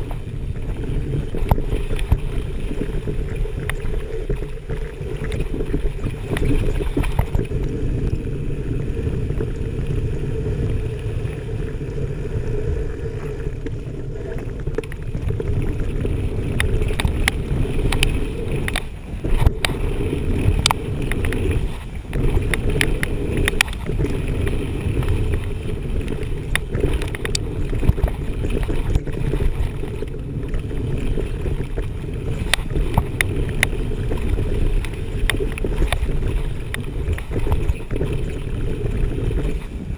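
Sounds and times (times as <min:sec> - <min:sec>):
bike tyres rumbling on dirt: 0:00.0 - 0:39.9
wind buffeting microphone: 0:00.0 - 0:39.9.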